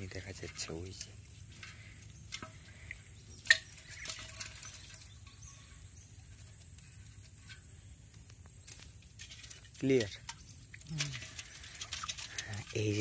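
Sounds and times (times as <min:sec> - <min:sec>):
prawns and fish tipping into pot: 0:00.0 - 0:07.8, 0:08.4 - 0:13.0.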